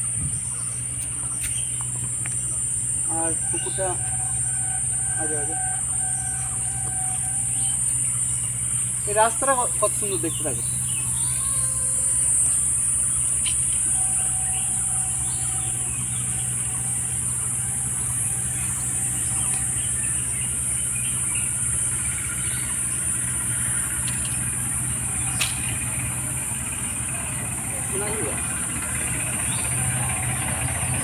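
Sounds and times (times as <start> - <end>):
insects droning: 0.0 - 31.0
low engine hum: 0.0 - 31.0
bird chirps: 0.1 - 31.0.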